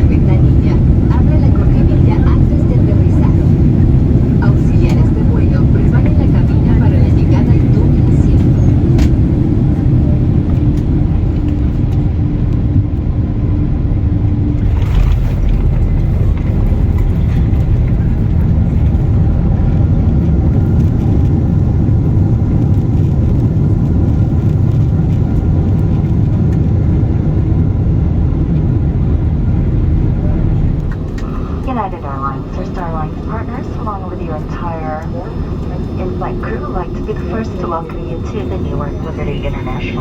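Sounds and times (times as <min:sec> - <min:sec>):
aircraft engine rumble in cabin: 0:00.0 - 0:40.0
steady hum: 0:00.0 - 0:40.0.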